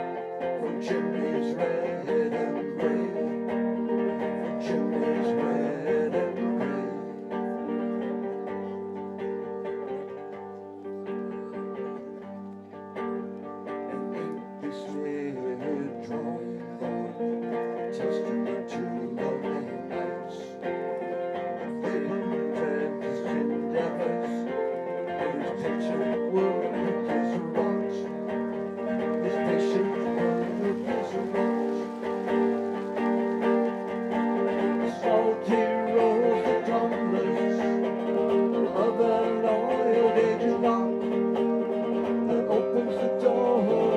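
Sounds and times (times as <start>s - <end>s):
acoustic band playing: 0.0s - 43.9s
picked acoustic guitar: 0.0s - 43.9s.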